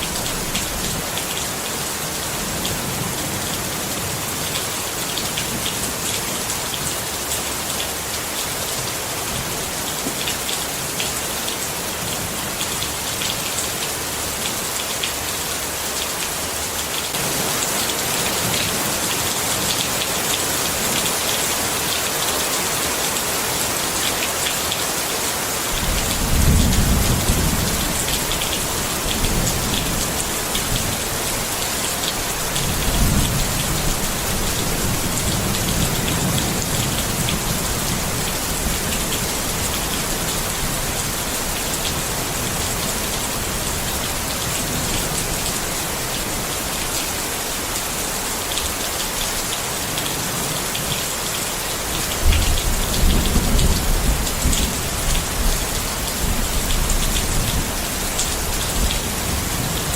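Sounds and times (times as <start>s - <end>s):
rain pattering on tent fabric: 0.0s - 59.9s.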